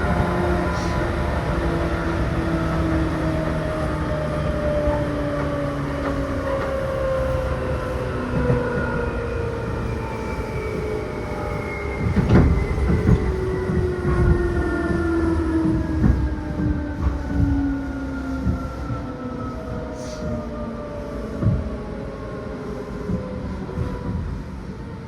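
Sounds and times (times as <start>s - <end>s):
train rumble from inside: 0.0s - 25.0s.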